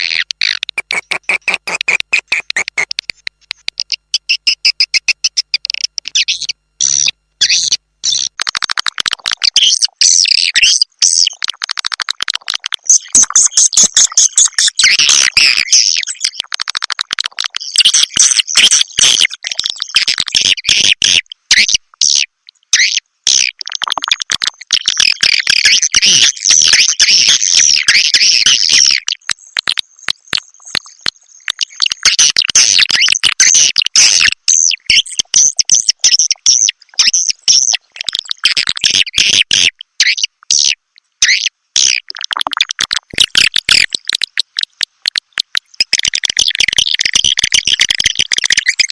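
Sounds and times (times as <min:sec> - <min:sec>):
swiftlets twittering and chirping: 0:00.0 - 0:16.8, 0:17.4 - 0:48.9.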